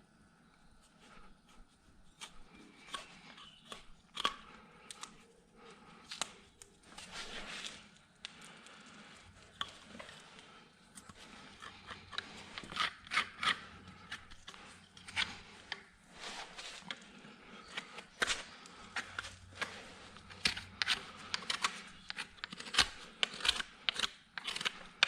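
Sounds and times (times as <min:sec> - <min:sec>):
hand tools scraping a hoof: 0:01.1 - 0:05.8, 0:06.8 - 0:25.0.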